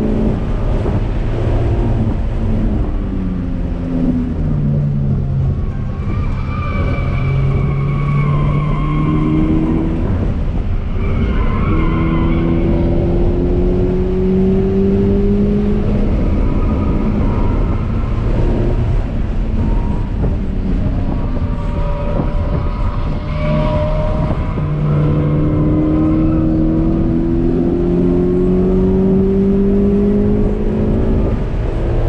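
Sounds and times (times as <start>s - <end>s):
car engine accelerating: 0.0s - 32.0s
tyre and road noise: 0.0s - 32.0s.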